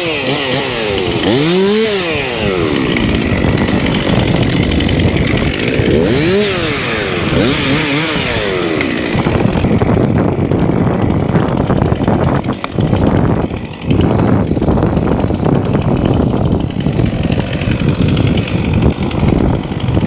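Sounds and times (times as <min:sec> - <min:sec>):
two-stroke chainsaw revving: 0:00.0 - 0:20.0.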